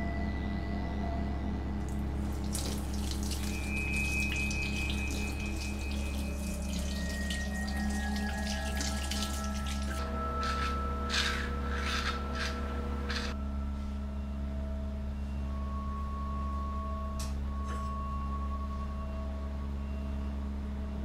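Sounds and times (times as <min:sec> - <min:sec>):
low steady drone: 0:00.0 - 0:21.0.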